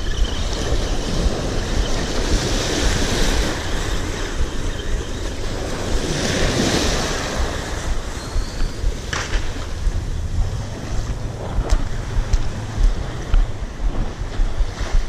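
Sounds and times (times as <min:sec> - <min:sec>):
waves breaking on shore: 0:00.0 - 0:15.0
wind buffeting microphone: 0:00.0 - 0:15.0.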